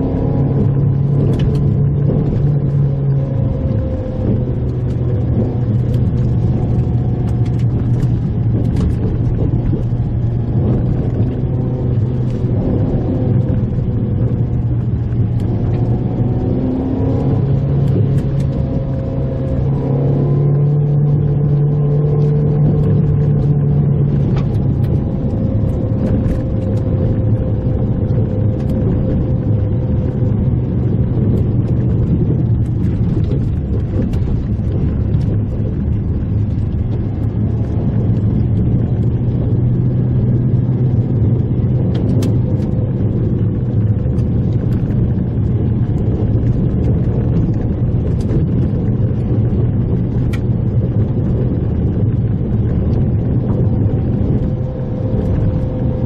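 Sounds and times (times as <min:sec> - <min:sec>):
car engine driving: 0:00.0 - 0:56.0.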